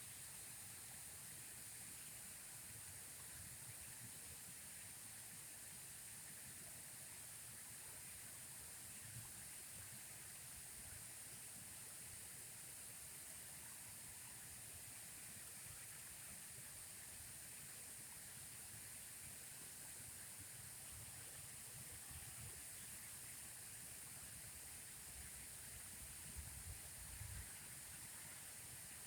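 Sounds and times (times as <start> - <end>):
running water hiss: 0.0 - 29.0.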